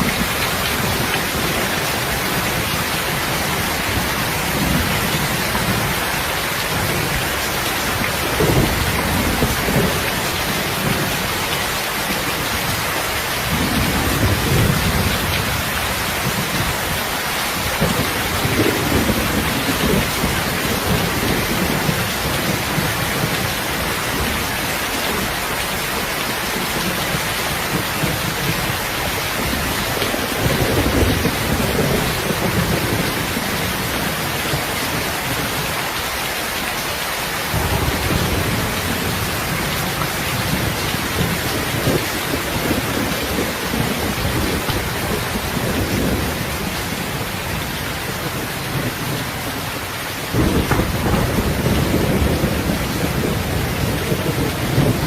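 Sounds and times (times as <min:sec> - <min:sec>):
rolling thunder rumbling: 0:00.0 - 0:35.7, 0:37.5 - 0:55.0
steady rain hiss: 0:00.0 - 0:55.0.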